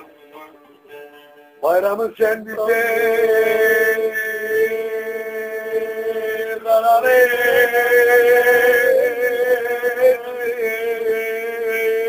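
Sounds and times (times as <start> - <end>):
man singing long notes: 0.0 - 12.0
music: 0.0 - 12.0.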